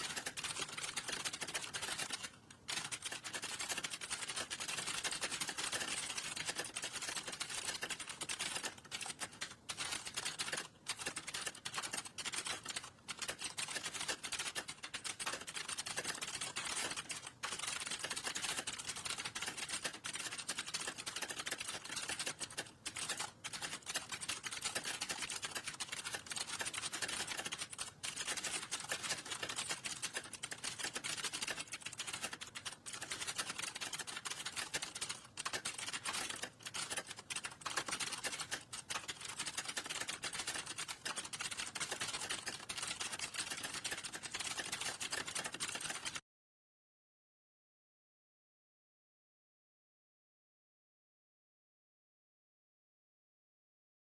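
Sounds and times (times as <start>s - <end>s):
fast typing on keyboard: 0.0s - 46.2s.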